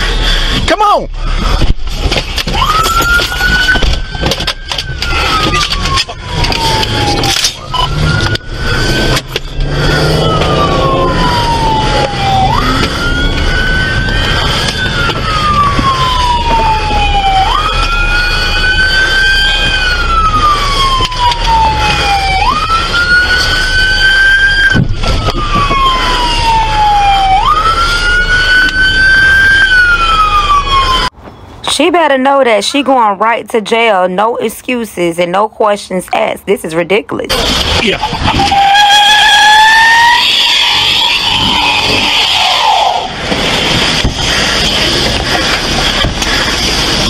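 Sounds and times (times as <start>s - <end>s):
fainter sirens: 0.0s - 47.0s
road and engine rumble: 0.0s - 47.0s
police siren wailing: 0.1s - 31.2s, 37.3s - 47.0s.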